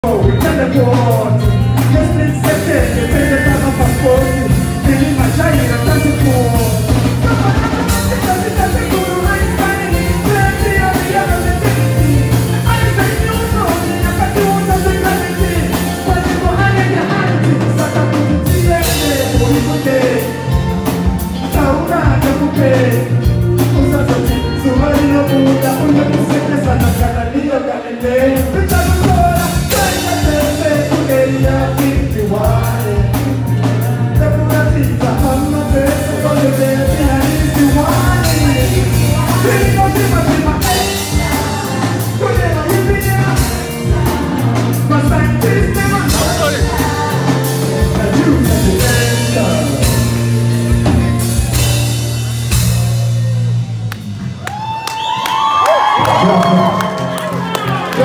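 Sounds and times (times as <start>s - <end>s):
live band with singing: 0.0s - 58.0s.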